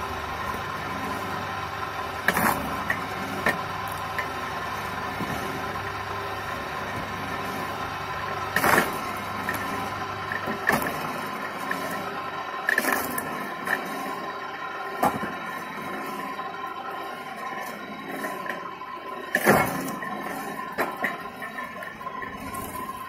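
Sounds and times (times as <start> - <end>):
log splitter motor running: 0.0 - 23.0.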